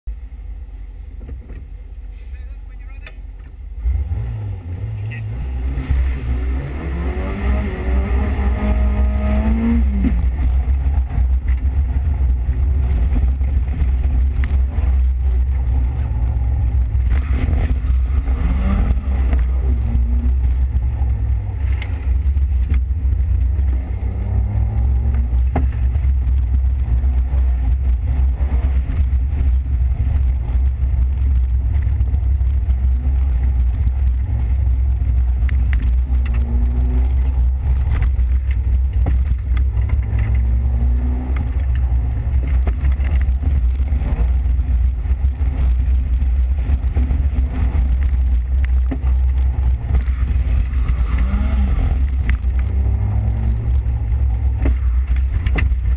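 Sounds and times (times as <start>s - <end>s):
car engine revving: 1.2s - 55.9s.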